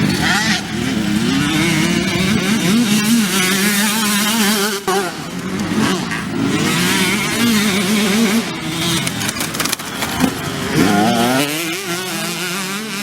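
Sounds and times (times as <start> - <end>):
two-stroke dirt bike revving: 0.0 - 13.0.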